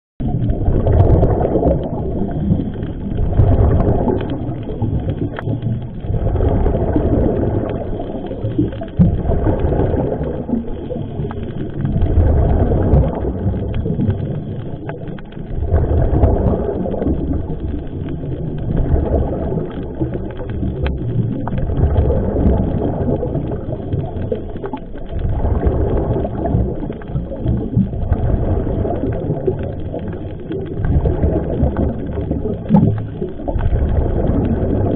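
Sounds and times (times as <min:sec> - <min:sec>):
exhaled bubbles: 0:00.2 - 0:34.9.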